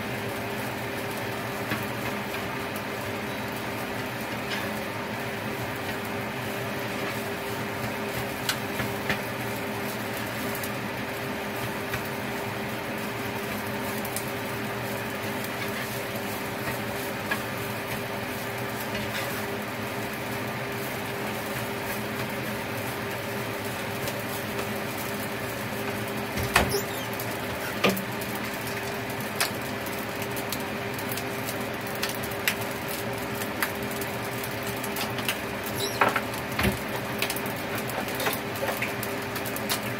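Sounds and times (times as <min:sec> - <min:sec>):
rice sizzling in a pan: 0:00.0 - 0:39.9.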